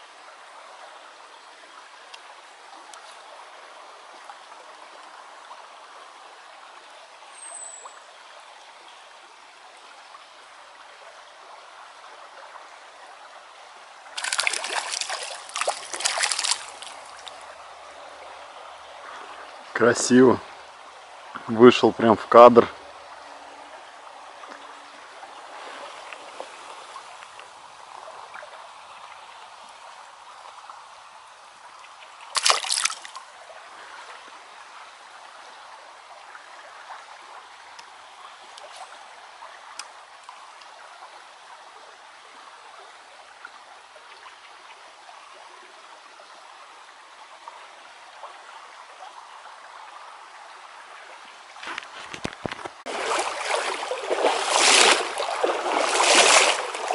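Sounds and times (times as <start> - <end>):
river water trickling: 0.0 - 56.9.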